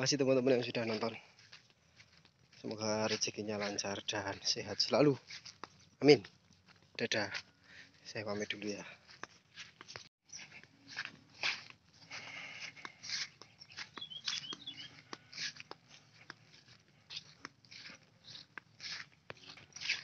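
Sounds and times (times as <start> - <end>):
footsteps on dirt path: 0.0 - 20.0.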